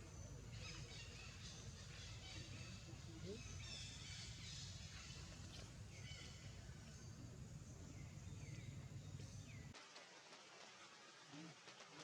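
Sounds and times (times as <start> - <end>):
low steady hum: 0.0 - 9.8.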